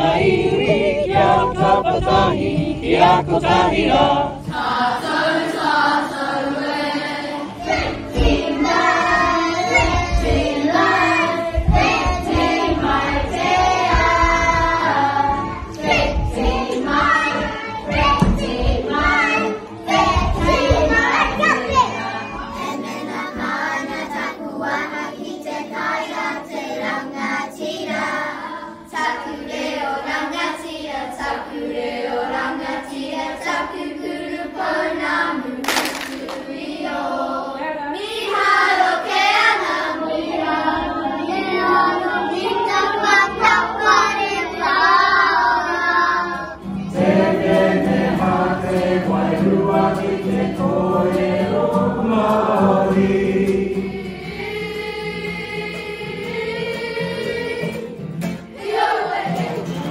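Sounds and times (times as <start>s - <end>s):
acoustic guitar: 0.0s - 30.6s, 38.6s - 59.9s
adults singing: 0.0s - 59.9s
children singing: 0.0s - 59.9s.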